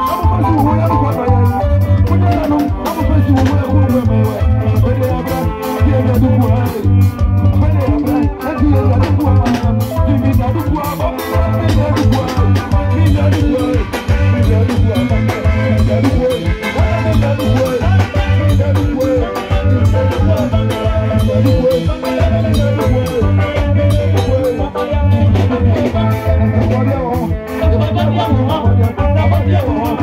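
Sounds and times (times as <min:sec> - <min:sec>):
live band dance music: 0:00.0 - 0:30.0.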